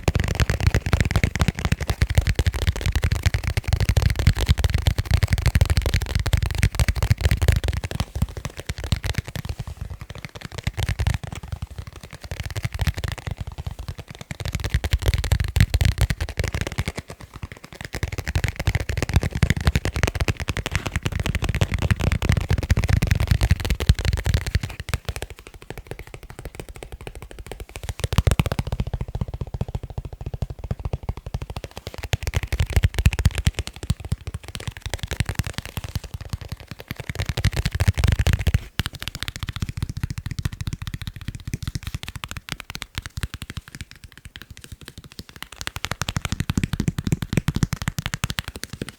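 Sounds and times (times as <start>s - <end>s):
fingers tapping on leather: 0.0s - 48.9s.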